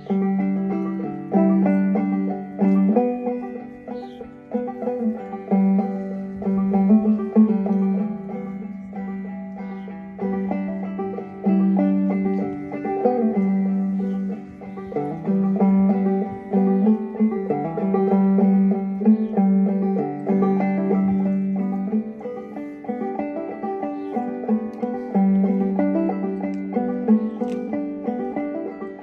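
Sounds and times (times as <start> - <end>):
banjo plucking: 0.0 - 29.0.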